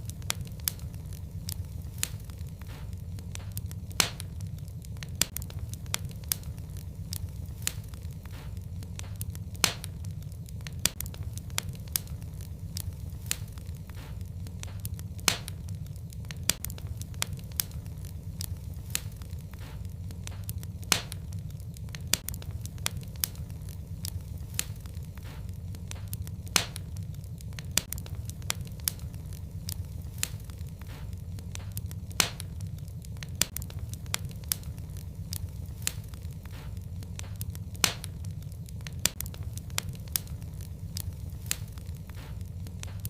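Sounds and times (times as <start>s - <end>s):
fire crackling and popping: 0.0s - 43.0s
fire rumbling: 0.0s - 43.0s.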